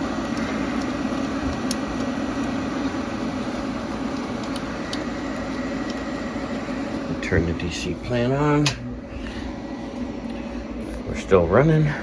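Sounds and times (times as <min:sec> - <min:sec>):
cooling fans whirring: 0:00.0 - 0:12.0.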